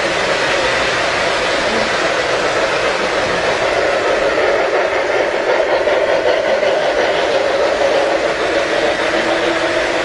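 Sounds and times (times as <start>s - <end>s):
model trains whirring on metal track: 0.0s - 10.0s.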